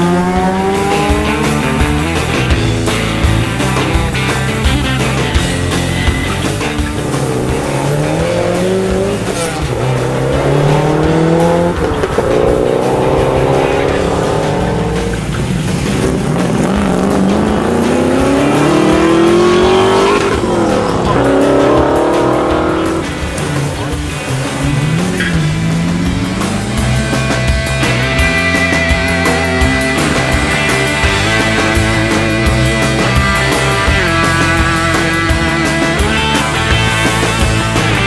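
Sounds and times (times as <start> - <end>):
rally car engines accelerating: 0.0 - 38.0.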